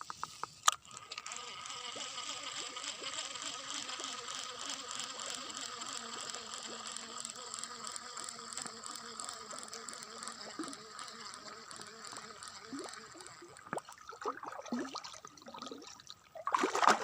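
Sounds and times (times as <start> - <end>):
fishing reel clicking: 0.0 - 13.7.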